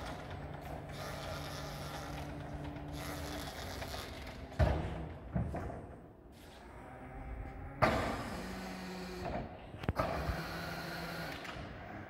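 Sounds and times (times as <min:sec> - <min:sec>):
electric truck drive hum: 0:00.0 - 0:05.4, 0:06.6 - 0:12.0.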